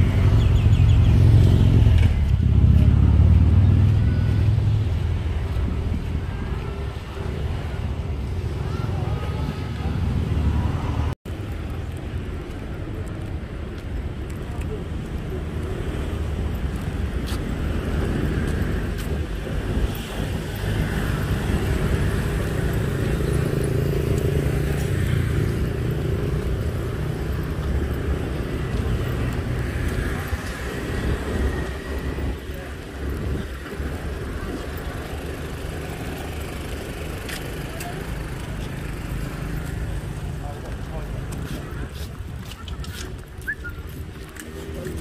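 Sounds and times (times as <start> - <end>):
cars passing: 0.0 - 45.0
motorbikes passing: 0.0 - 45.0.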